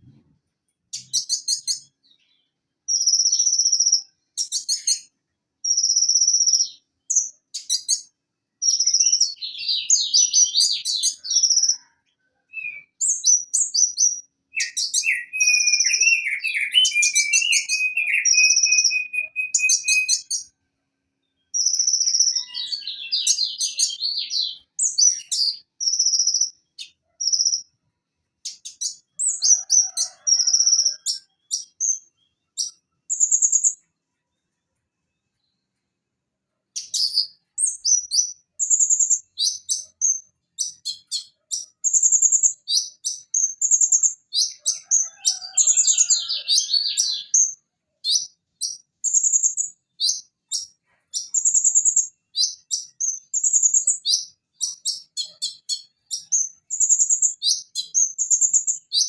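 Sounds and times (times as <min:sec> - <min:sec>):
bird chirping and trilling: 0:00.9 - 0:11.9, 0:12.5 - 0:20.5, 0:21.2 - 0:27.8, 0:28.4 - 0:33.9, 0:36.8 - 0:59.0.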